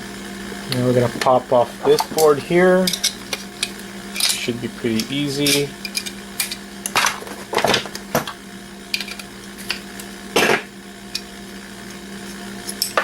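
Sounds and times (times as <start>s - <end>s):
steady low hum: 0.0s - 13.0s
clicks and snaps of hard parts: 1.9s - 13.0s.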